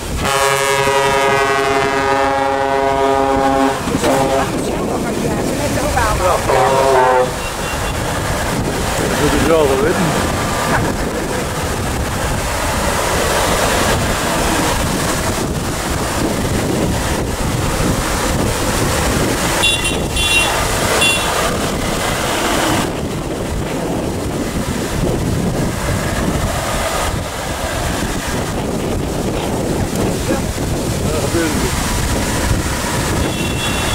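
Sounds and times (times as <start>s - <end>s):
diesel truck engines rumbling: 0.0s - 33.9s
wind on microphone: 0.0s - 33.9s.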